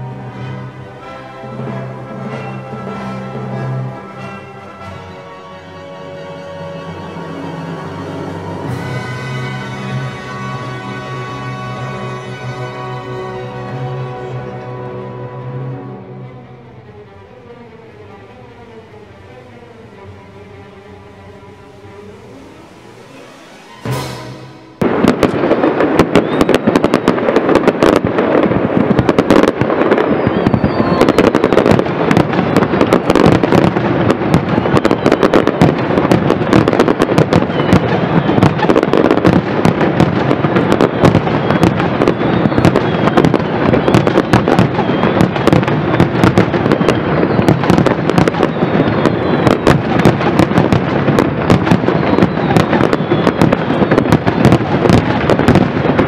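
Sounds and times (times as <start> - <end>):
fireworks bursting and crackling: 0.0 - 17.4, 18.0 - 56.0.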